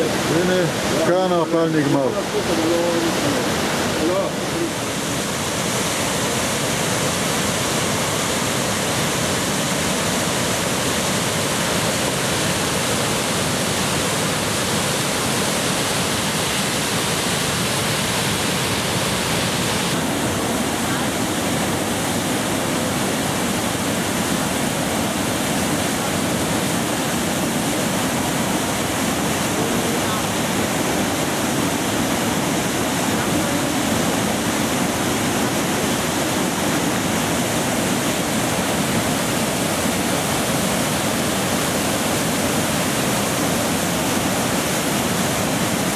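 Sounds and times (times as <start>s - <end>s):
whitewater rushing: 0.0s - 45.9s.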